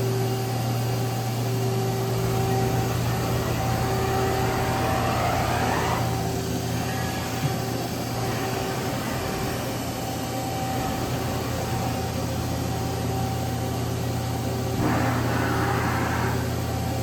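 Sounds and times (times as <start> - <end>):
constant machine tones: 0.0 - 17.0
machining center hum: 0.0 - 17.0.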